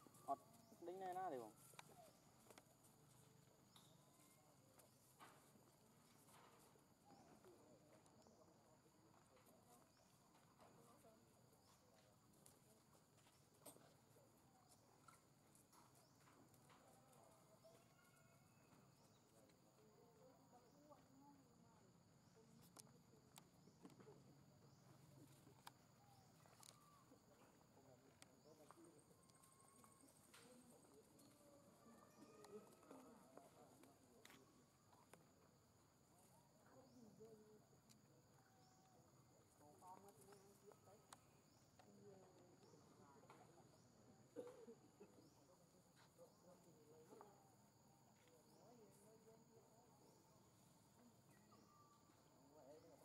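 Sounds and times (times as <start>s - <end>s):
faint outdoor ambience: 0.0s - 53.0s.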